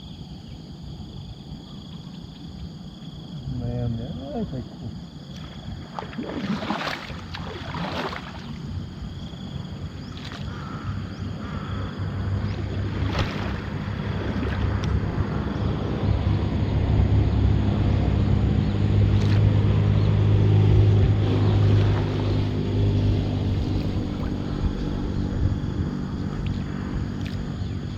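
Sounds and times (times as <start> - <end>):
boat engine humming: 4.3 - 27.9.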